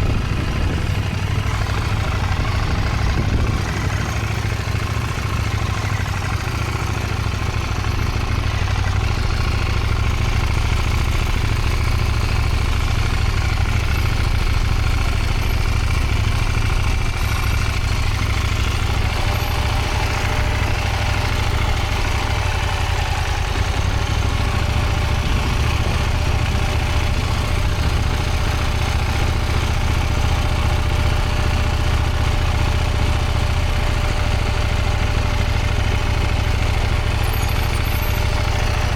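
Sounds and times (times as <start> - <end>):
motorcycle engine at low revs: 0.0 - 38.9.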